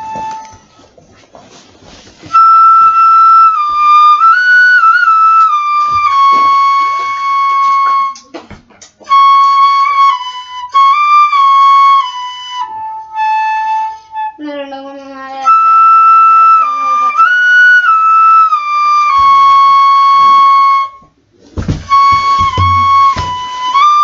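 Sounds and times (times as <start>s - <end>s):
bamboo flute melody: 0.0s - 0.9s, 2.2s - 14.5s, 15.3s - 24.0s.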